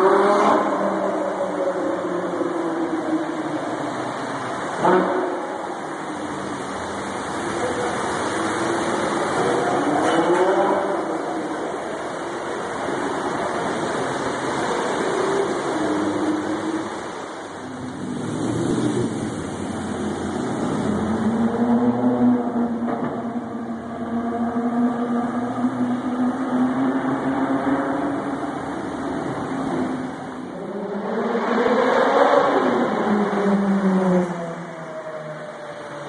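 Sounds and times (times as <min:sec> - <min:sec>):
cars driving through tunnel: 0:00.0 - 0:36.0.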